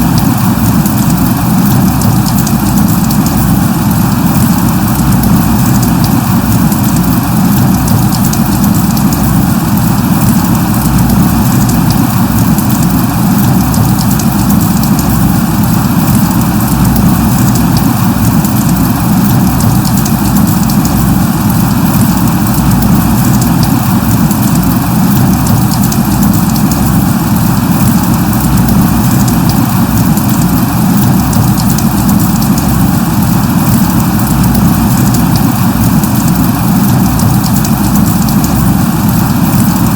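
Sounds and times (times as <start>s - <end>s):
light rain hissing: 0.0s - 39.9s
rain drops pattering: 0.0s - 39.9s.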